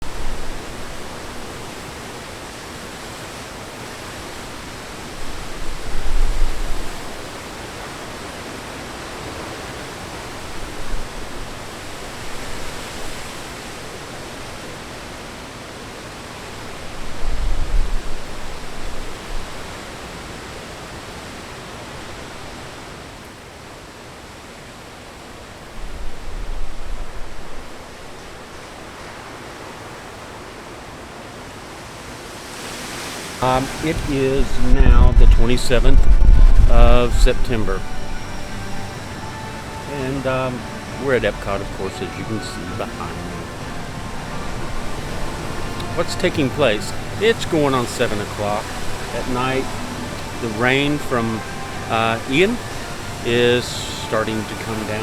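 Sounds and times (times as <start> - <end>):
wind gusting on microphone: 0.0 - 22.8, 25.7 - 29.0, 32.3 - 55.0
rain falling: 0.0 - 23.8, 24.5 - 55.0.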